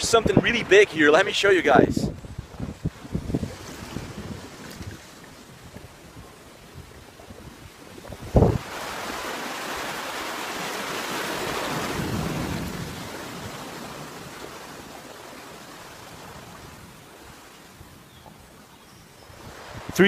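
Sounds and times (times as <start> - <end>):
waves breaking on beach: 0.0 - 20.0
wind: 0.0 - 20.0.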